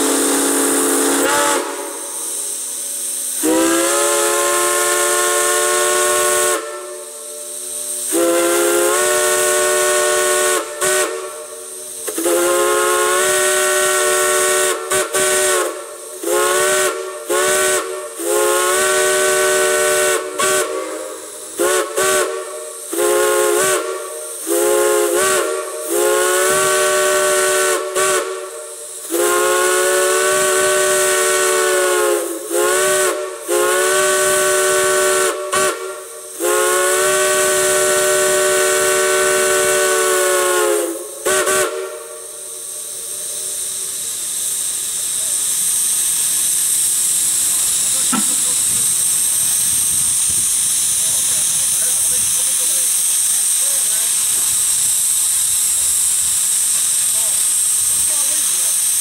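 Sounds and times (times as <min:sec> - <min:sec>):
steam whistles blowing a chord: 0:00.0 - 0:52.5
steam hiss: 0:00.0 - 0:59.0.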